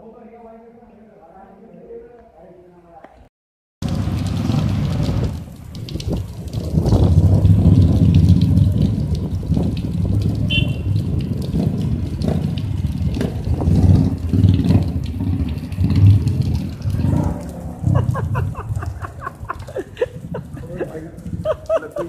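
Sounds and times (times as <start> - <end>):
motorcycle engines revving: 3.8 - 22.0.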